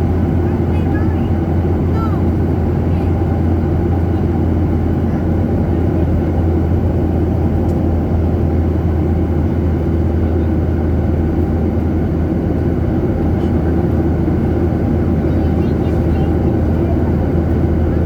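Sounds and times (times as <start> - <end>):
airflow rumble: 0.0 - 18.0
jet engine hum: 0.0 - 18.0.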